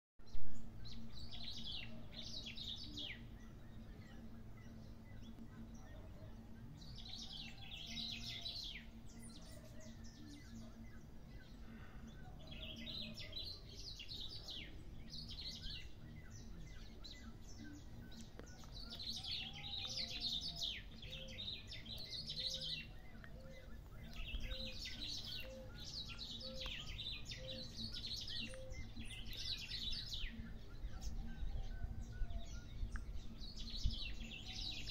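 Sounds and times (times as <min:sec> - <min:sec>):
birds singing high quick notes: 0:00.8 - 0:34.9.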